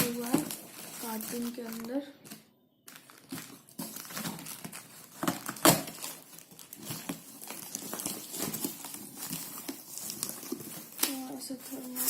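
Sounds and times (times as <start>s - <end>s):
cardboard box crinkling and rustling: 0.0s - 2.0s, 2.9s - 12.0s
sharp cardboard crackle: 0.0s - 12.0s.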